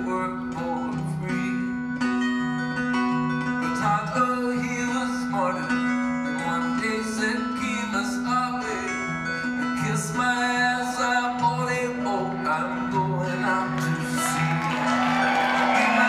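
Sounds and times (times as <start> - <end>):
person singing: 0.0 - 2.2, 3.4 - 16.0
acoustic guitars playing: 0.0 - 16.0.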